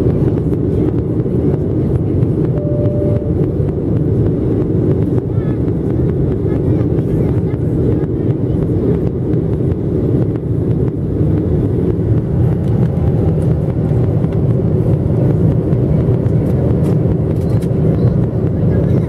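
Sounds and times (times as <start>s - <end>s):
airflow over aircraft fuselage: 0.0s - 19.0s
jet engines droning: 0.0s - 19.0s.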